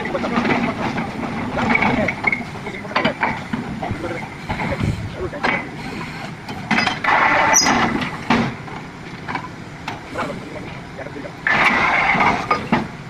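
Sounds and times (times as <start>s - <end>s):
drilling rig running: 0.0s - 13.0s.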